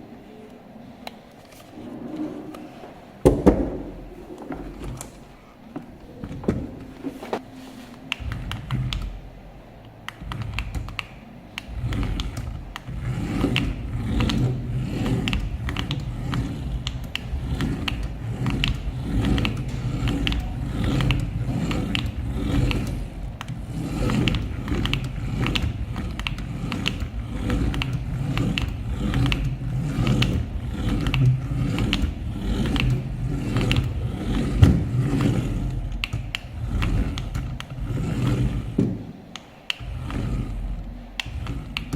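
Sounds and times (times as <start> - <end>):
rattling gear clicks: 3.3 - 41.9
toy car electric motor rumbling: 8.2 - 41.9.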